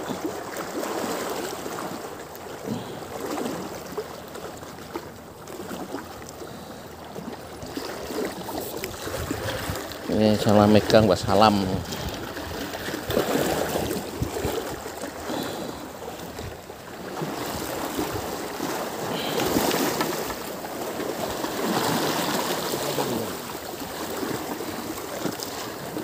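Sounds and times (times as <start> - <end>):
sea water lapping and splashing: 0.0 - 26.0.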